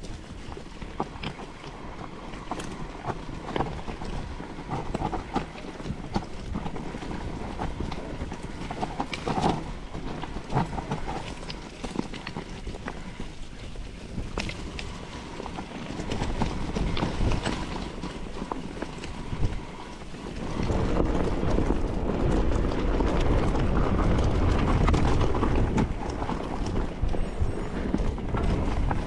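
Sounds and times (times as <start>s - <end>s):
bike tyres rumbling over stones: 0.0s - 29.0s.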